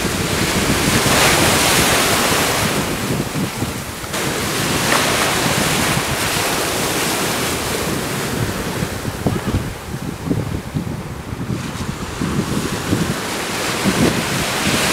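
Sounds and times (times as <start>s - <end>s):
sea surf washing in: 0.0s - 14.9s
wind buffeting microphone: 0.0s - 14.9s.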